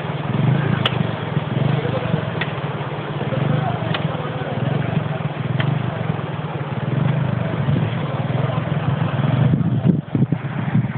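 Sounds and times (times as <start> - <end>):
constant rushing noise: 0.0 - 10.9
vehicle engine running: 0.0 - 10.9.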